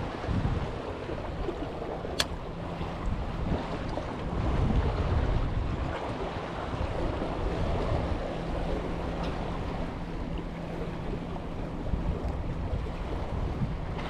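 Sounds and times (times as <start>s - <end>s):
sea water washing: 0.0s - 14.0s
wind buffeting microphone: 0.0s - 14.0s.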